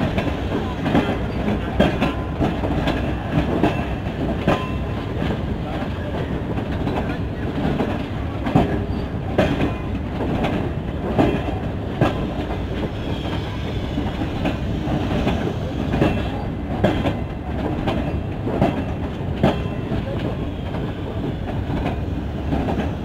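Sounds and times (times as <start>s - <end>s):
train wheels rumbling on rails: 0.0s - 23.0s
wheels knocking on rail joints: 0.0s - 23.0s.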